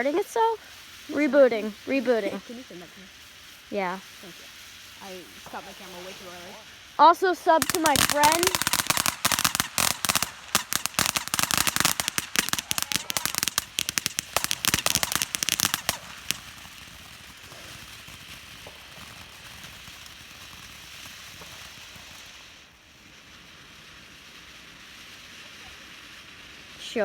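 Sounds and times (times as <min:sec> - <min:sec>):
firework crackling: 0:00.0 - 0:27.0
steady hiss: 0:00.0 - 0:27.0.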